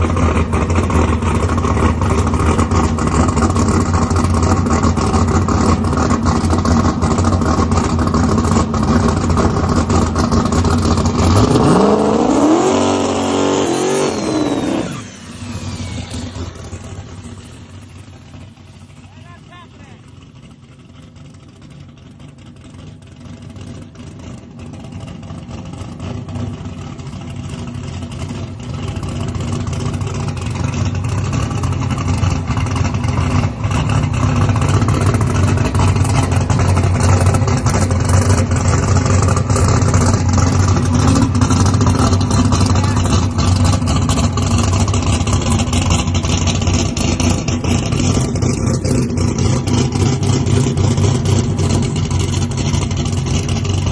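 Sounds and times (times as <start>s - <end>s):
race engine running: 0.0s - 53.9s.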